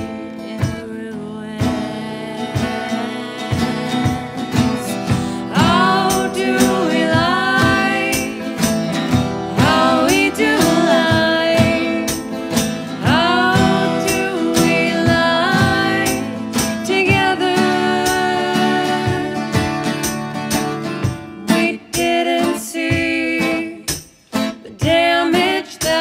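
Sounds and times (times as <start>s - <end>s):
women singing: 0.0s - 19.9s, 21.2s - 26.0s
strummed acoustic guitars: 0.0s - 26.0s.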